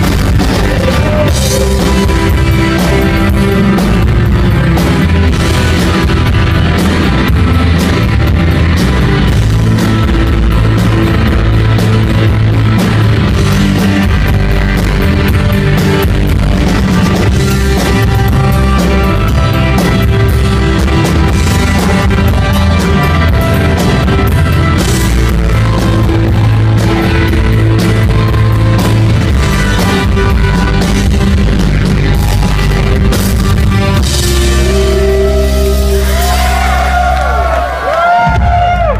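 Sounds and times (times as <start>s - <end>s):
drum kit beat: 0.0s - 37.0s
electric guitar: 0.0s - 38.9s.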